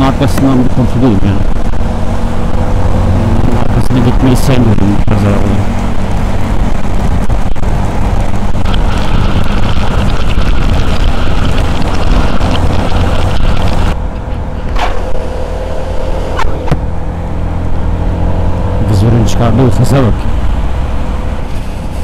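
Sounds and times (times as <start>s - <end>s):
wind rush on microphone: 0.0s - 18.8s
motorcycle engine running: 0.0s - 19.4s.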